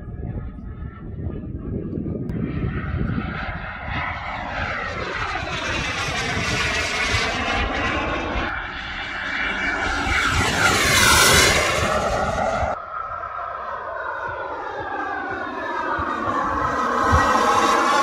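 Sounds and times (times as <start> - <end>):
model jet turbine flying past: 0.0 - 18.0.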